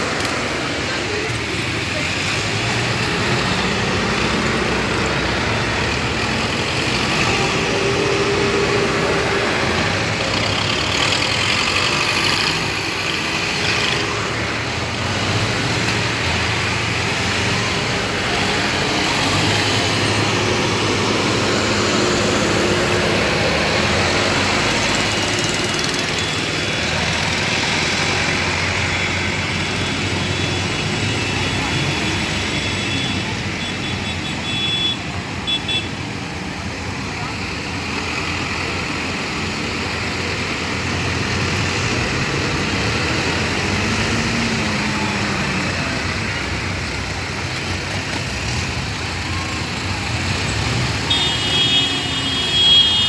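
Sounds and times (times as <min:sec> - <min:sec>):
tractor engines running: 0:00.0 - 0:53.0.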